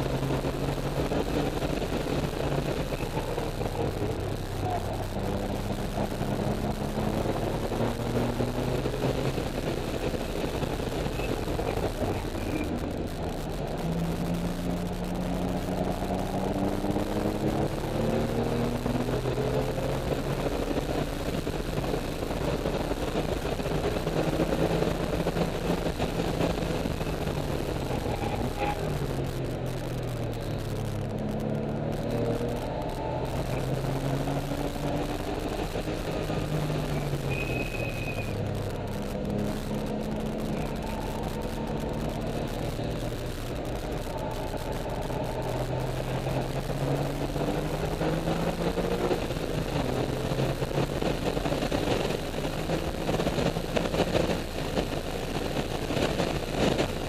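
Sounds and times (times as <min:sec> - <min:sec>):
car engine accelerating: 0:00.0 - 0:57.0
road and tyre noise: 0:00.0 - 0:57.0.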